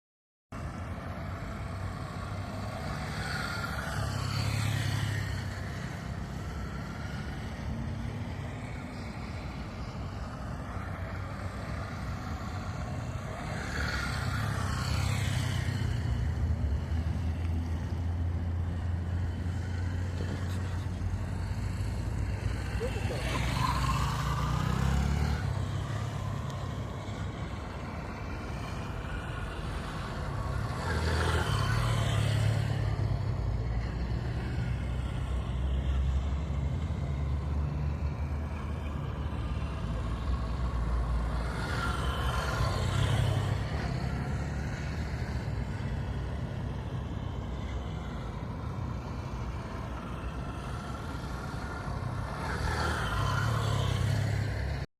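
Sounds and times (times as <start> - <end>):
motorcycle engines droning: 0.6 - 54.9
motorcycles riding past: 0.6 - 54.9.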